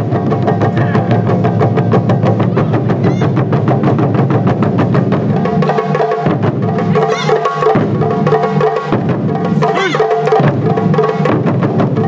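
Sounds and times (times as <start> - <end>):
ensemble drumming on barrel drums: 0.0 - 12.0.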